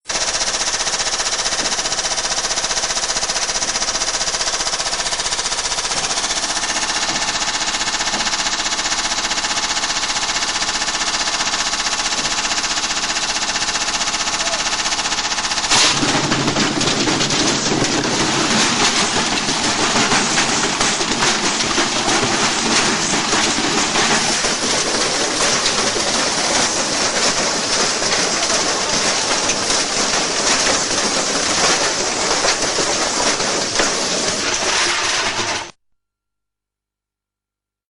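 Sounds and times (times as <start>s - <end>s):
washing machine whine: 0.0s - 35.8s.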